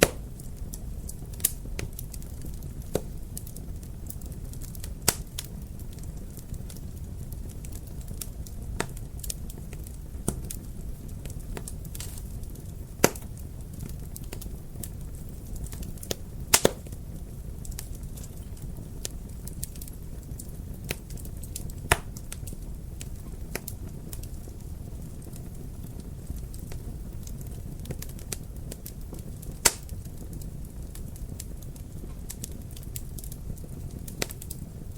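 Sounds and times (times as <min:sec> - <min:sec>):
fire popping: 0:00.0 - 0:34.9
wood fire crackling: 0:00.0 - 0:34.9.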